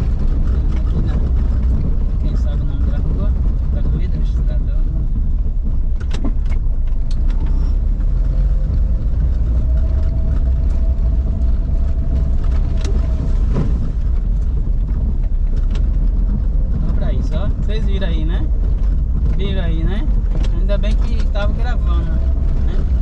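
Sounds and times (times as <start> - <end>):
car rumbling over cobblestones: 0.0 - 23.0
sharp knocks and rattles: 0.0 - 23.0.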